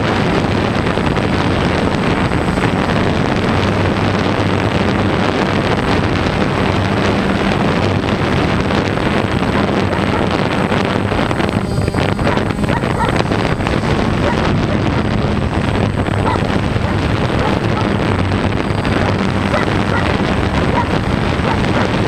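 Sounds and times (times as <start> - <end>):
drone propellers buzzing: 0.0 - 22.0
wind on microphone: 0.0 - 22.0.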